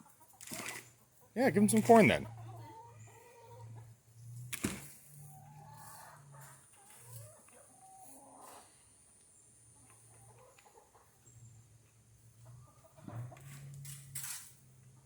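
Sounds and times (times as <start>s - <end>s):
chickens clucking: 0.0s - 4.2s, 5.2s - 13.7s.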